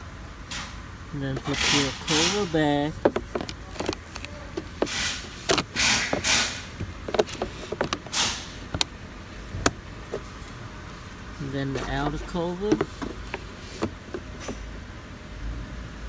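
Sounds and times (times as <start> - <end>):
plastic scraping on plastic: 1.2 - 14.8.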